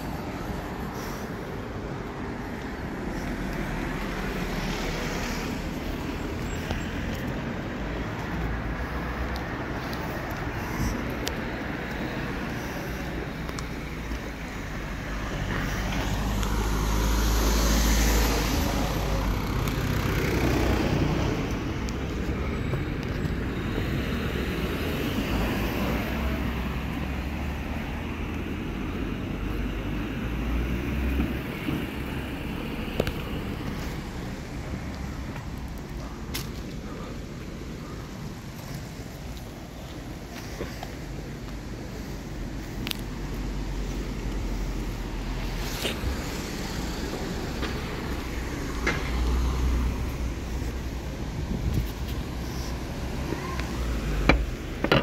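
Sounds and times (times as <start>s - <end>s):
steady traffic noise: 0.0s - 55.0s.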